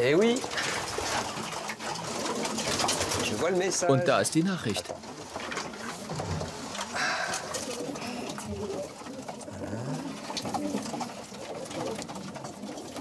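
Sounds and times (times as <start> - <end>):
small clicks and rustles: 0.0 - 13.0
pigeons cooing: 0.4 - 3.5, 5.0 - 13.0.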